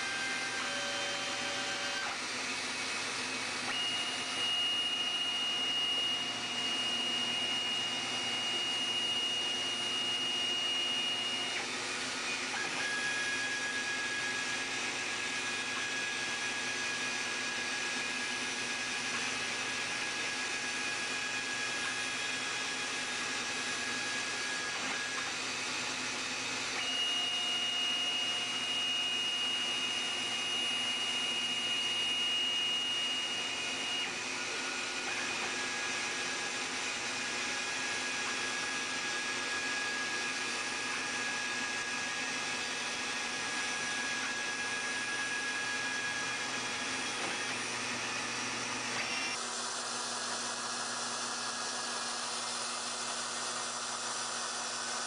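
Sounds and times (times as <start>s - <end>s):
router spindle high whine: 0.0s - 55.0s.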